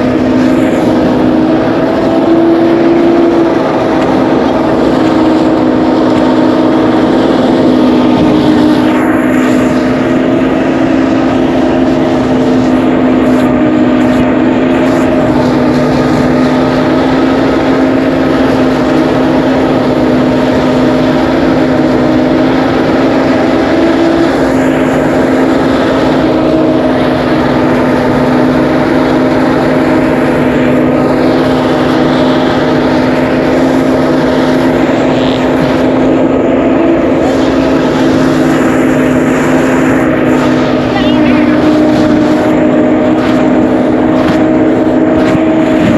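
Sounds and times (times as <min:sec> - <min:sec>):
threshing machine motor drone: 0:00.0 - 0:45.9.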